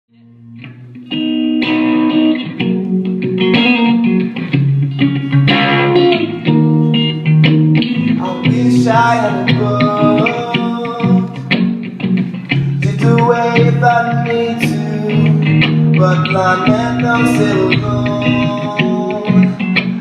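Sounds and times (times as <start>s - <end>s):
guitar chords: 0.1s - 20.0s
live band playing: 0.7s - 20.0s.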